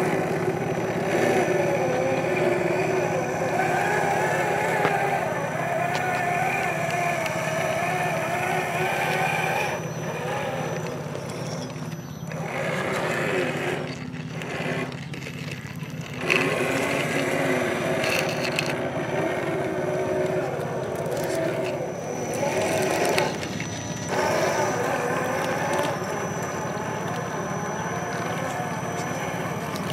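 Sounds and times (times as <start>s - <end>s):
electric motor and gearbox whining: 0.0s - 29.9s.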